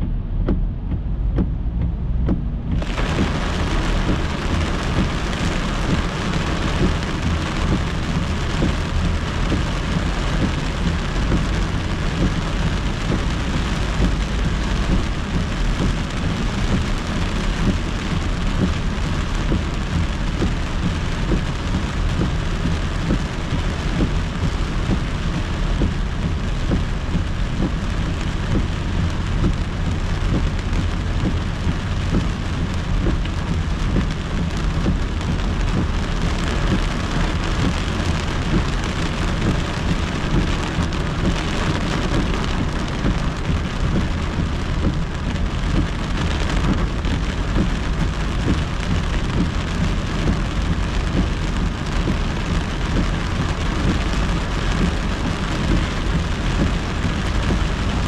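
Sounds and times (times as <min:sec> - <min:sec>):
tyres rumbling on wet road: 0:00.0 - 0:58.0
heavy rain on car windshield: 0:02.3 - 0:58.0.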